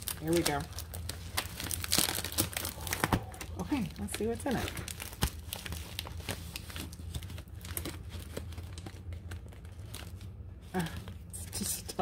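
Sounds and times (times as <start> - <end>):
packaging pouch crinkling and tearing: 0.0 - 10.4.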